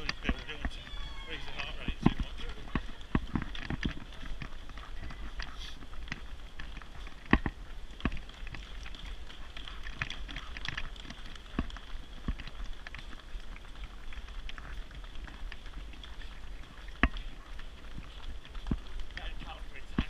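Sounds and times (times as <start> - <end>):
running footsteps on brick: 0.0 - 20.0
stroller wheels rolling over brick: 0.0 - 20.0.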